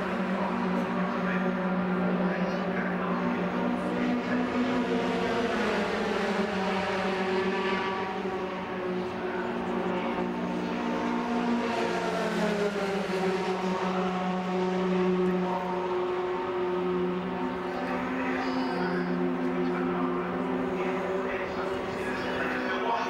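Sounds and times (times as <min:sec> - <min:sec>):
racing truck engines droning: 0:00.0 - 0:23.0.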